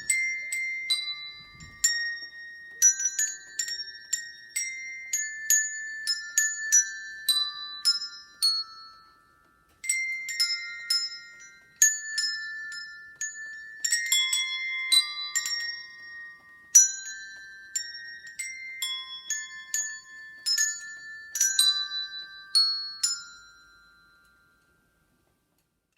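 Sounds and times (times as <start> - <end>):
hand bells playing a tune: 0.0 - 25.5.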